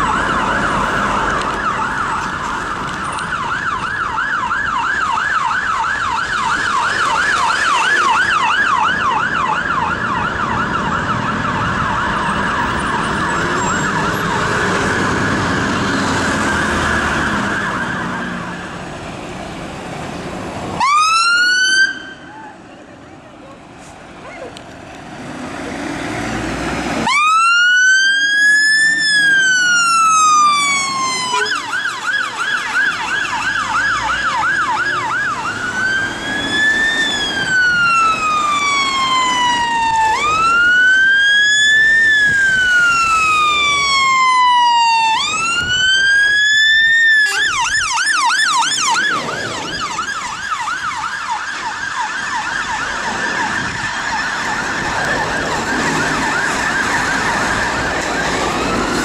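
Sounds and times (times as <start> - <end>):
fire engine siren wailing and yelping: 0.0 - 19.3, 20.6 - 22.7, 25.7 - 59.0
fire engine running: 0.0 - 59.0
traffic: 0.0 - 59.0.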